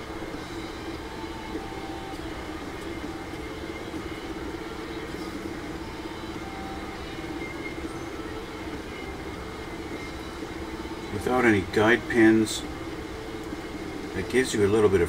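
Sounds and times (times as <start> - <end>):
background hum and rumble: 0.0 - 15.0.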